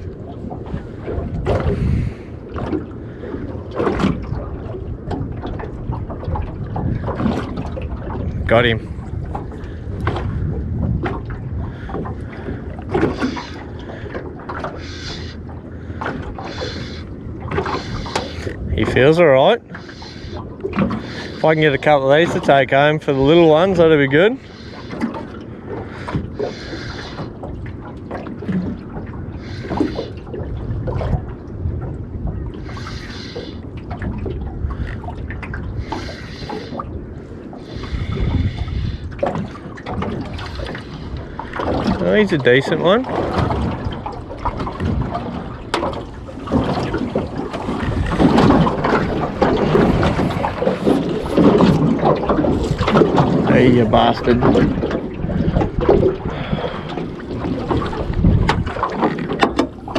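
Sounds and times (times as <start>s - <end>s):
water sloshing and splashing: 0.0s - 59.9s
wind buffeting microphone: 0.0s - 59.9s.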